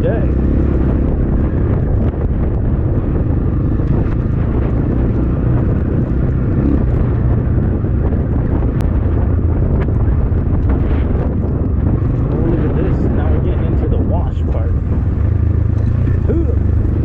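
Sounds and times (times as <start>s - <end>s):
dirt bike engine running: 0.0s - 17.0s
wind buffeting microphone: 0.0s - 17.0s.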